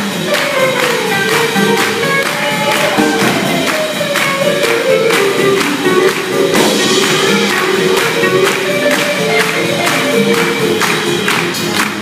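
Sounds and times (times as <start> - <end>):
drum kit beat: 0.0 - 12.0
guitar: 0.0 - 12.0
swing band playing: 0.0 - 12.0.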